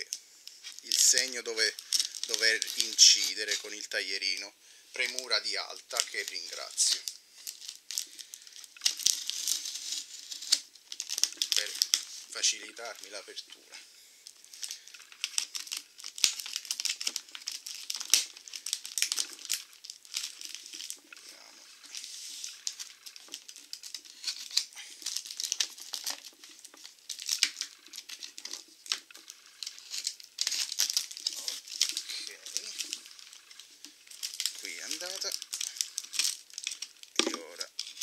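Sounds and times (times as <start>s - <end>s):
plastic wrap crinkling: 0.0s - 38.0s.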